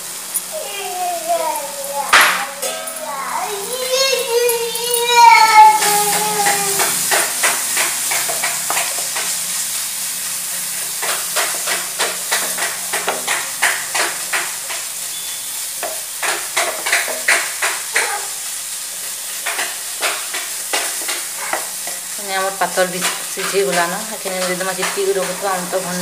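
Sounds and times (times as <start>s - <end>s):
vegetables sizzling in a frying pan: 0.0s - 26.0s
spatula scraping a pan: 1.4s - 9.8s, 10.4s - 26.0s.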